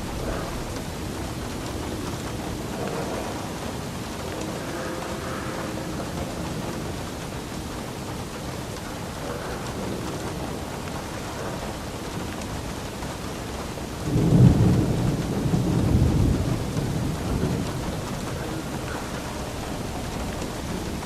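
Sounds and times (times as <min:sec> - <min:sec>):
steady rain falling: 0:00.0 - 0:21.0
thunder rumbling: 0:00.0 - 0:21.0.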